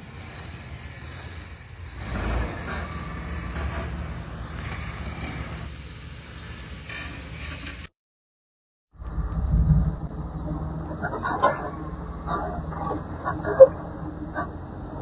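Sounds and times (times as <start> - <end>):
off-road vehicle engine revving: 0.0 - 7.9, 9.0 - 15.0.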